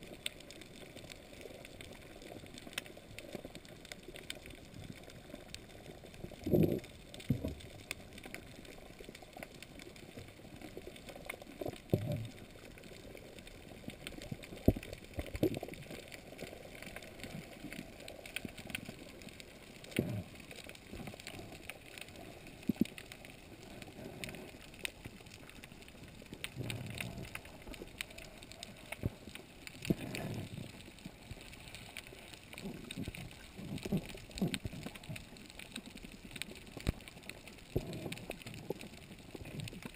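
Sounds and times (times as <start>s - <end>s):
faint crackle: 0.0s - 39.9s
underwater water surges: 0.0s - 39.9s.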